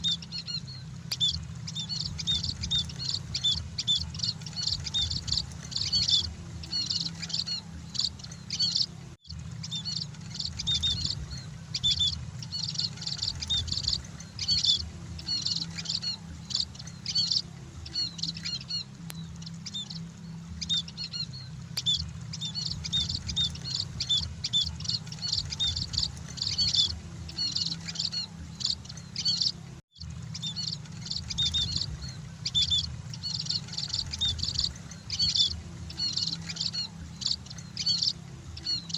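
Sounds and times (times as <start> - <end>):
flock of birds chirping: 0.0 - 38.9
low steady hum: 0.0 - 38.9.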